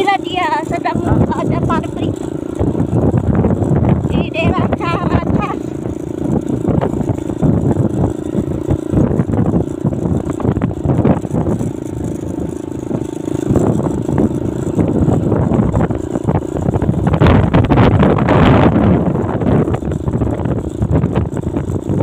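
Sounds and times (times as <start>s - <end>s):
road noise: 0.0s - 22.0s
vehicle engine running: 0.0s - 22.0s
wind rumble on microphone: 0.0s - 22.0s.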